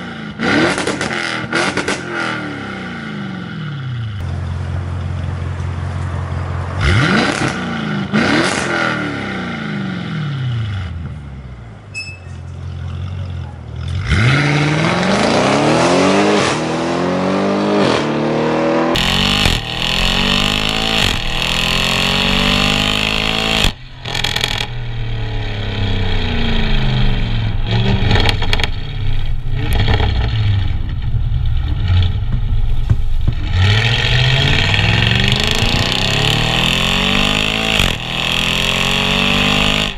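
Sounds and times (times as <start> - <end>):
car engine revving: 0.0 - 11.6, 12.7 - 39.9
car exhaust while accelerating: 0.0 - 11.8, 12.5 - 39.9.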